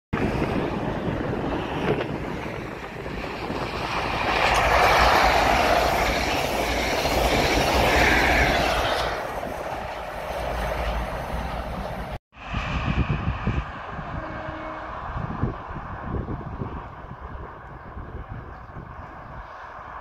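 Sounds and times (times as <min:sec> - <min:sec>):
diesel train passing at speed: 0:00.2 - 0:20.0.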